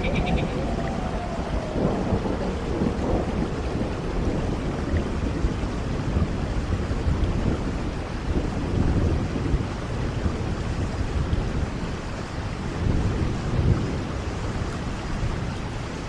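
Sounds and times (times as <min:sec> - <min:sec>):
low rumbling thunder: 0:00.0 - 0:15.8
steady rain: 0:00.0 - 0:16.0.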